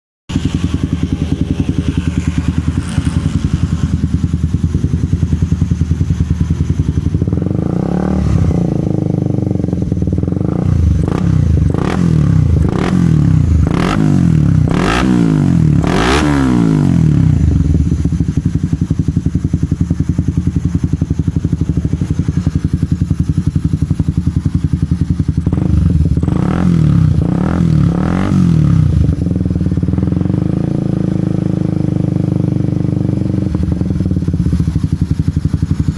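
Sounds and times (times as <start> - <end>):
motorcycle engine idling: 0.3 - 35.9
motorcycle throttle blips: 0.3 - 35.9.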